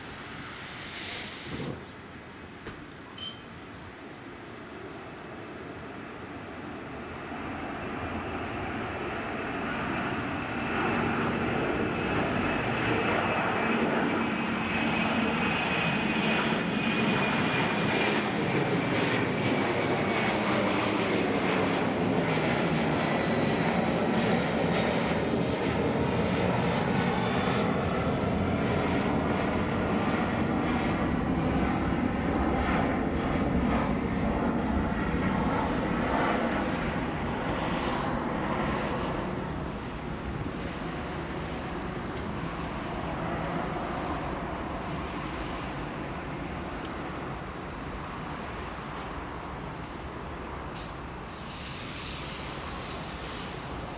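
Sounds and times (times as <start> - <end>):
high jet whine falling in pitch: 0.0 - 20.1, 29.4 - 53.9
jet engines rumbling: 0.0 - 53.9.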